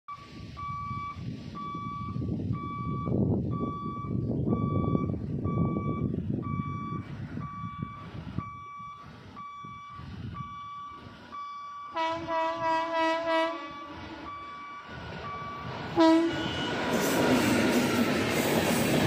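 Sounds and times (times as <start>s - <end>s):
level crossing alarm beeping: 0.1s - 17.3s.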